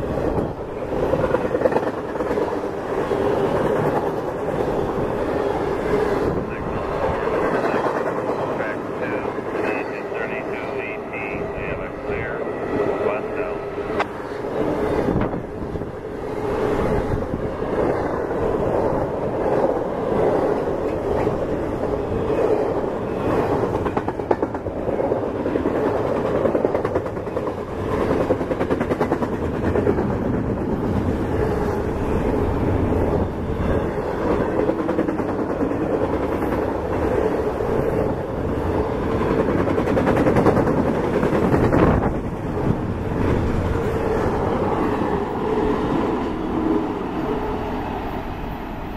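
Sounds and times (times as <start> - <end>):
train wheels rumbling and clicking: 0.0 - 9.7, 10.5 - 47.4.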